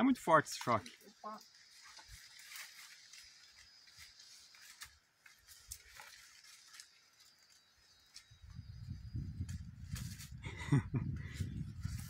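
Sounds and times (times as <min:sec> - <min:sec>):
footsteps through undergrowth: 0:00.1 - 0:10.4, 0:11.3 - 0:12.0.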